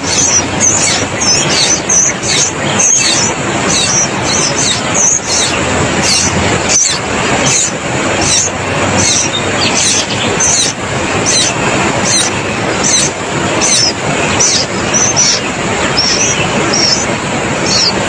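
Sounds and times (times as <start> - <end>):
bird chirping: 0.0 - 18.0
loud steady rushing noise: 0.0 - 18.0.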